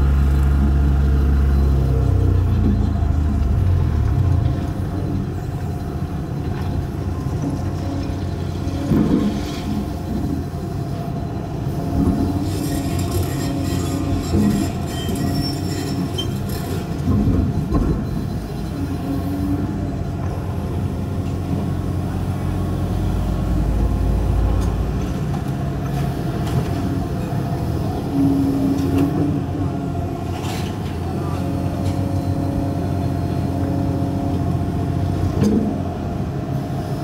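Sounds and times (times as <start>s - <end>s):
excavator diesel engine: 0.0s - 37.0s.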